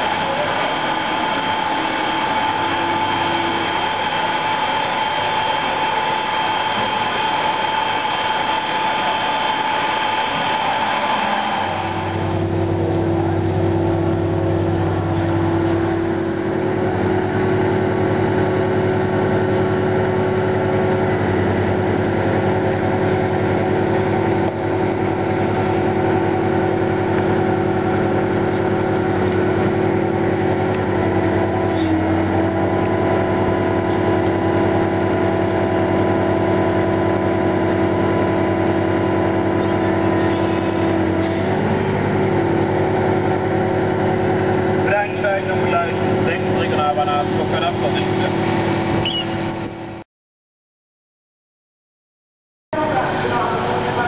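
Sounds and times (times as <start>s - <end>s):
diesel engine running: 0.0s - 50.0s, 52.8s - 54.0s
machinery with high whine: 0.0s - 50.0s, 52.8s - 54.0s.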